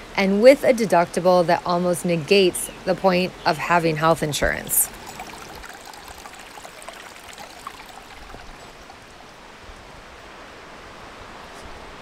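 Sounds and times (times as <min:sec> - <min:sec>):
stream water running: 0:00.0 - 0:12.0.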